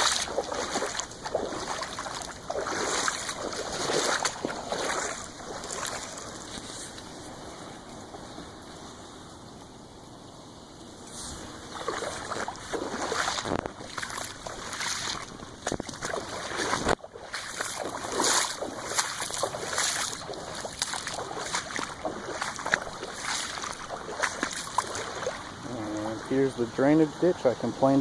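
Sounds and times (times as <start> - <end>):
water splashing and sloshing: 0.0 - 8.8, 11.0 - 28.0.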